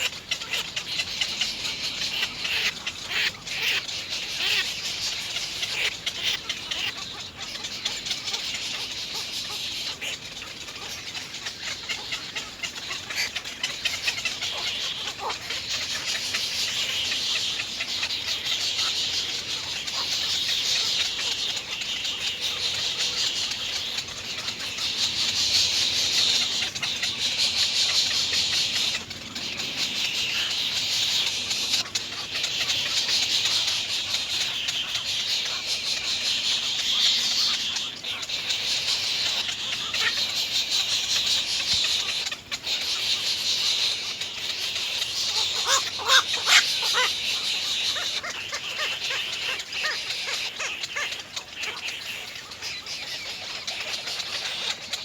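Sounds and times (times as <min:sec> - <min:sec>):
egret nestlings begging calls: 0:00.0 - 0:55.0.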